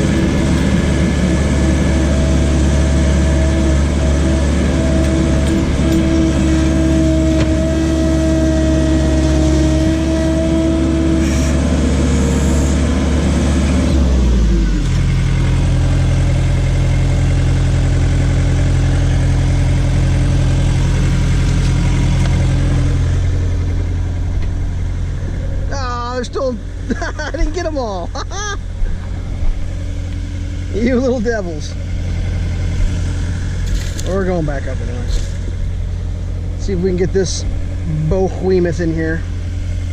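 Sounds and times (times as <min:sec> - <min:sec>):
diesel engine revving and idling: 0:00.0 - 0:39.9
steady whine: 0:00.0 - 0:39.9.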